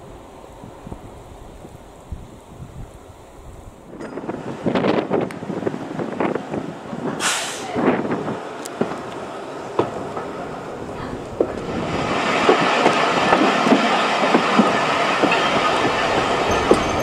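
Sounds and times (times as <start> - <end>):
train wheels rolling on rail: 0.0 - 17.0
wind buffeting microphone: 0.0 - 17.0.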